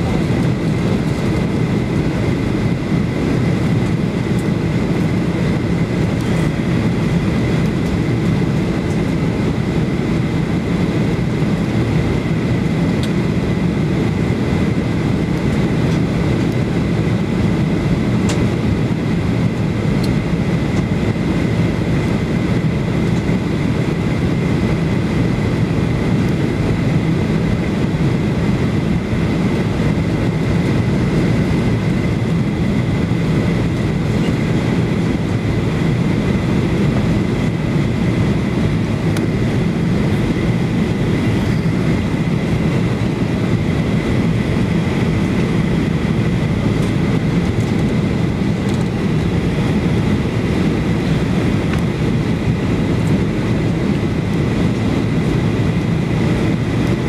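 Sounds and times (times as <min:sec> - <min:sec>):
airplane cabin airflow and engines: 0:00.0 - 0:57.0
thin steady whine: 0:00.0 - 0:57.0.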